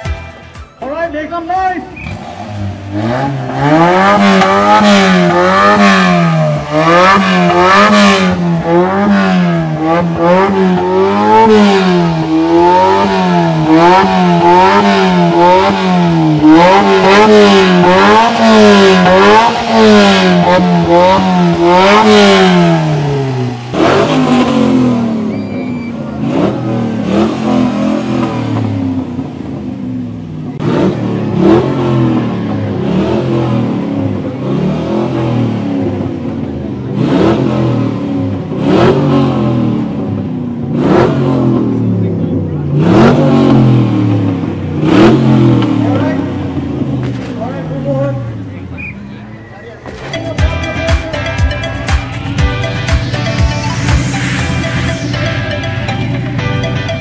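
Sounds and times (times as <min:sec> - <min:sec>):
car engine revving: 0:01.2 - 0:57.0.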